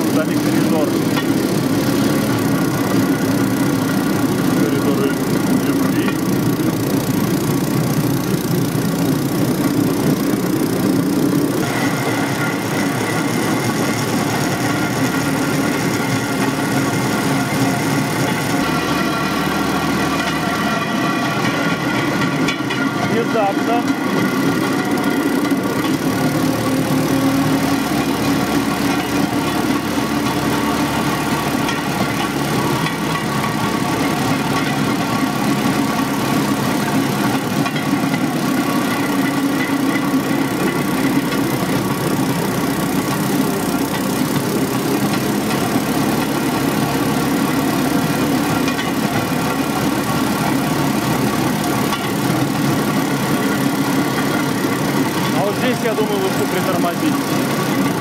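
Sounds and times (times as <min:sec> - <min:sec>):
rail cart engine droning: 0:00.0 - 0:58.0.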